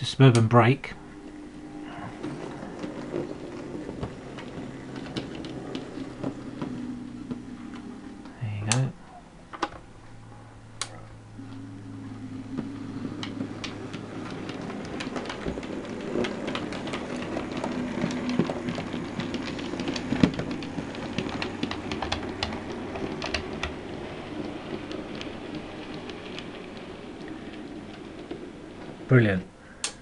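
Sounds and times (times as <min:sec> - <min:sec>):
wheels clicking over rail joints: 0:00.0 - 0:09.9, 0:10.8 - 0:30.0
model train motor humming: 0:01.1 - 0:08.3, 0:10.7 - 0:30.0.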